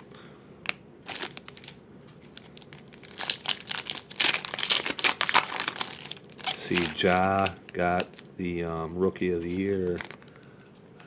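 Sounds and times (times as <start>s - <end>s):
pack wrapper crinkling: 0.6s - 8.6s, 9.4s - 10.7s.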